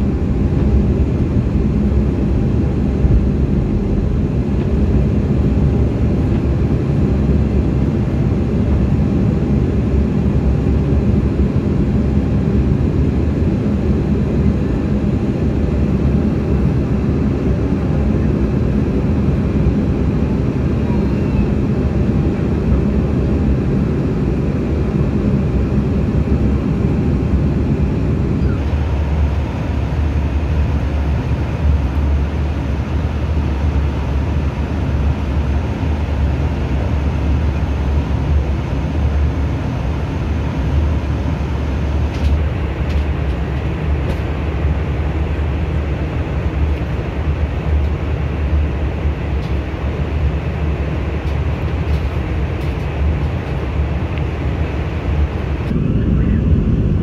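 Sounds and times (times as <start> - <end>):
airliner engines and airflow rumble: 0.0 - 57.0.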